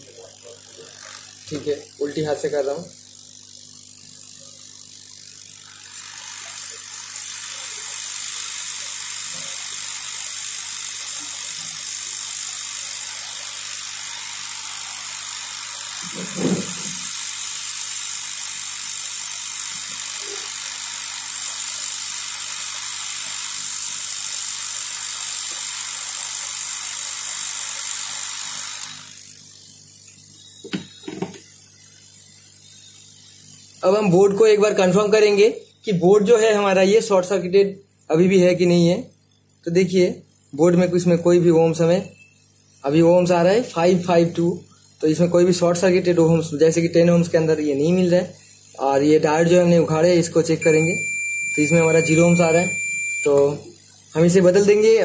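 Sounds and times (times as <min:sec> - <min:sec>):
hot-air gun hissing: 0:00.0 - 0:35.4, 0:40.7 - 0:55.0.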